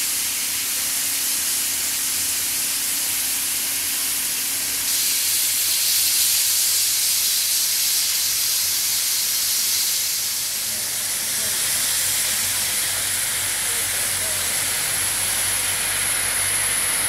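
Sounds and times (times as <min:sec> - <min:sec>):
steam locomotive venting steam: 0:00.0 - 0:17.0.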